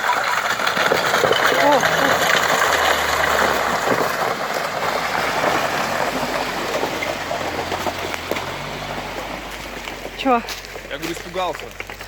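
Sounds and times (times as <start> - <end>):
vehicle engine idling: 0.3 - 12.0.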